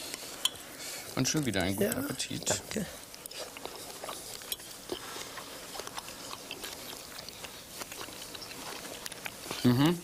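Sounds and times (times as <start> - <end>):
faint chewing: 0.0 - 10.0.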